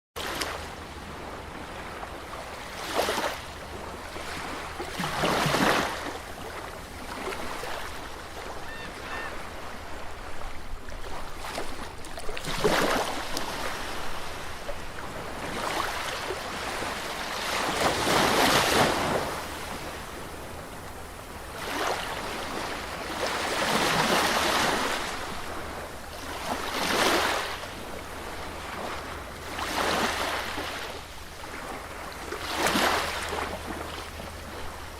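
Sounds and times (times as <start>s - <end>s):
steady wash of water: 0.2s - 34.9s
waves breaking on a beach: 0.2s - 34.9s.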